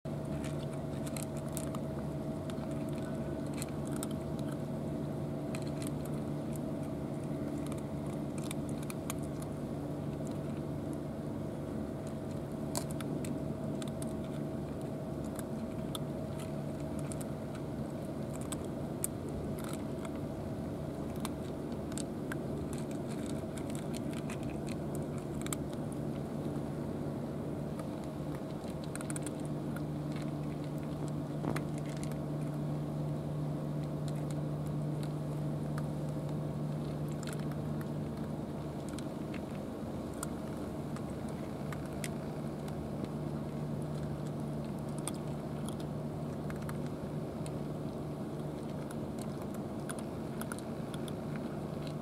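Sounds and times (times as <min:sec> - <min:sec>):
steady mechanical hum: 0:00.0 - 0:52.0
cats crunching dry kibble: 0:00.1 - 0:52.0.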